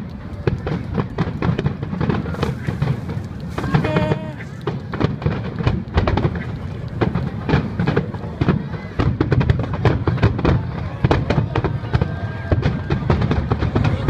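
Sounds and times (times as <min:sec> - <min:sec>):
continuous low rumble: 0:00.0 - 0:14.0
fireworks bursting with sharp bangs: 0:00.0 - 0:14.0.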